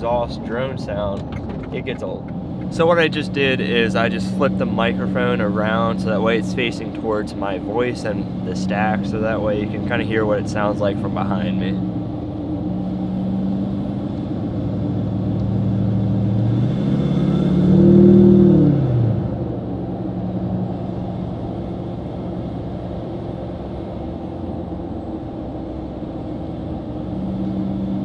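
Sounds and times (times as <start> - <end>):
diesel pickup exhaust note: 0.0 - 28.0.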